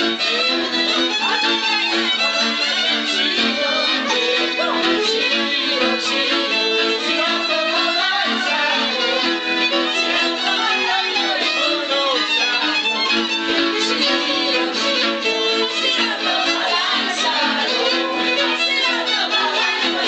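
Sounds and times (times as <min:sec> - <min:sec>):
fiddle playing folk dance music: 0:00.0 - 0:20.0.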